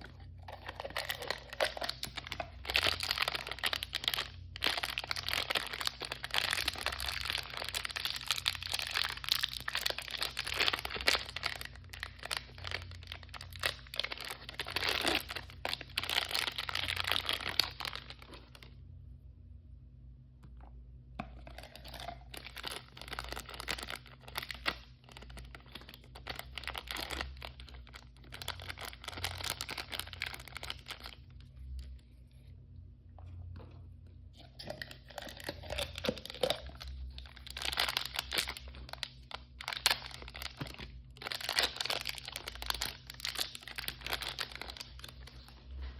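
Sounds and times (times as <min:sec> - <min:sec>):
wrapper tearing and crinkling: 0:00.5 - 0:18.7, 0:21.6 - 0:31.3, 0:34.7 - 0:45.6.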